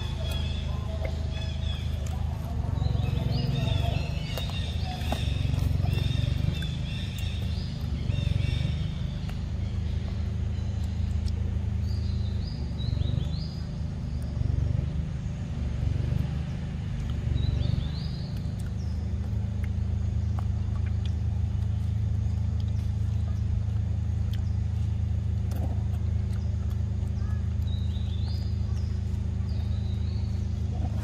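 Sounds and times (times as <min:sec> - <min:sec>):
motor humming: 0:00.0 - 0:31.0.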